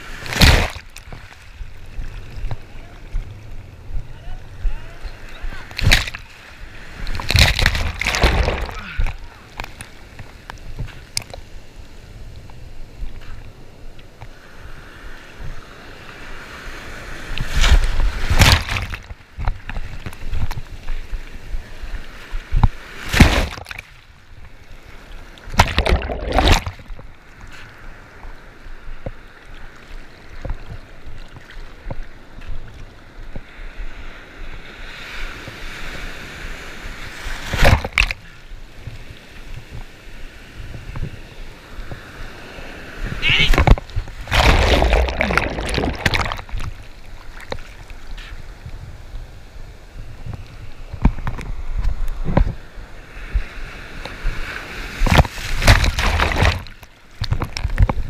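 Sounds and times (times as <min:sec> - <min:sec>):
waves splashing against camera: 0:00.0 - 0:58.0.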